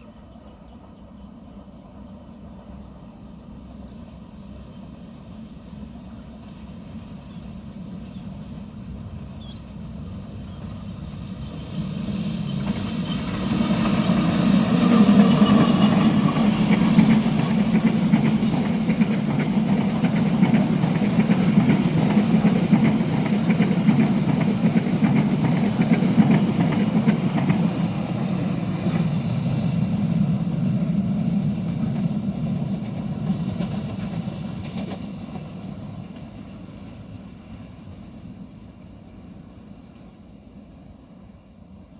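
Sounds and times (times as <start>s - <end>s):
diesel locomotive engine: 0.0s - 41.9s
train wagons rumbling past: 0.0s - 41.9s.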